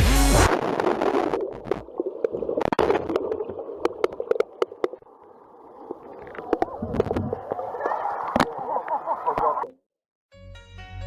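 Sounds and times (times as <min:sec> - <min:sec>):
water sloshing and splashing: 0:00.7 - 0:09.7.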